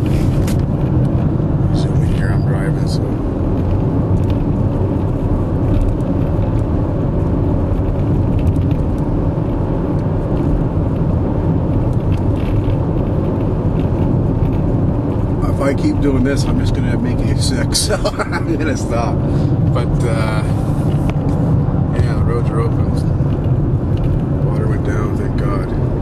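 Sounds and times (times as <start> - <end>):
engine and road noise: 0.0 - 26.0.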